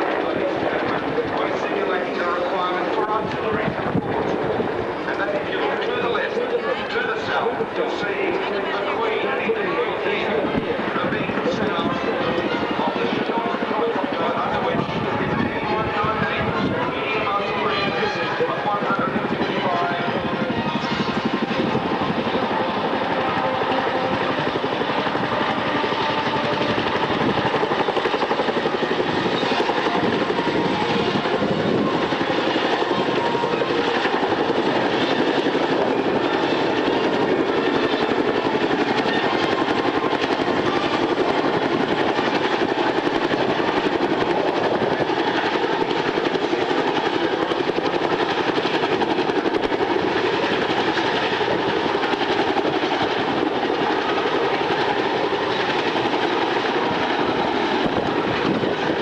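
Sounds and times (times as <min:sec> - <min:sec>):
aircraft engine running steadily: 0:00.0 - 0:59.0.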